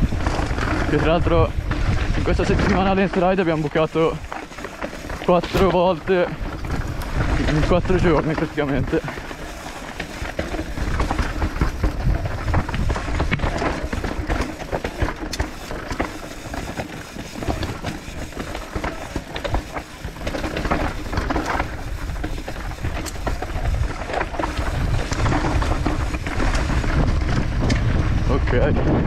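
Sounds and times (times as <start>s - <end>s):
bike rattling clicks and knocks: 0.0s - 29.0s
bike tyres crunching over stones: 0.0s - 29.0s
wind rumble on microphone: 0.0s - 29.0s.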